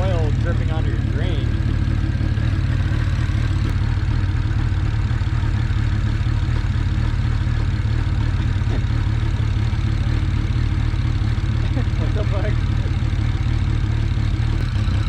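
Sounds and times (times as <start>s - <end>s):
car engine idling unevenly: 0.0s - 15.0s.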